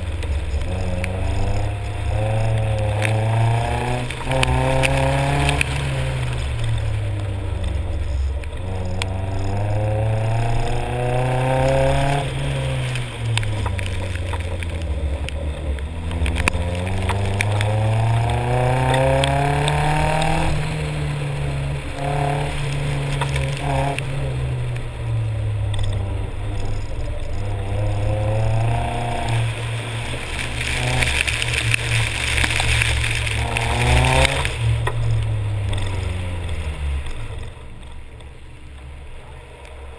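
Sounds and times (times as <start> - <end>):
car engine revving: 0.0 - 39.9
tyres hissing on wet pavement: 0.0 - 39.9.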